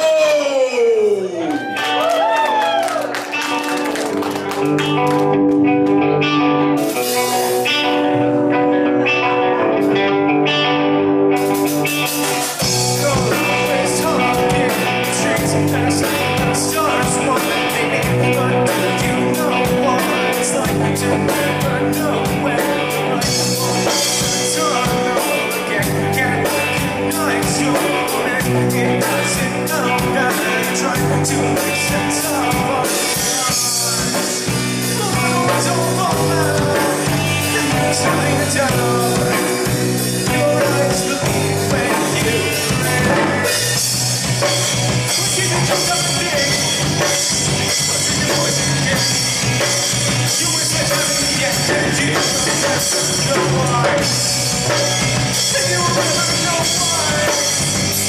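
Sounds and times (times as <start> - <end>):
bass guitar: 0.0 - 58.0
drums: 0.0 - 58.0
guitar: 0.0 - 58.0
live rock band playing: 0.0 - 58.0.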